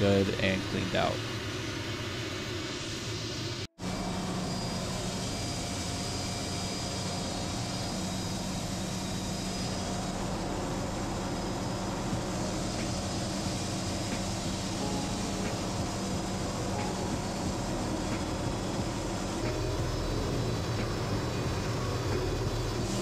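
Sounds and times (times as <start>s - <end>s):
mechanical drone: 0.0s - 23.0s.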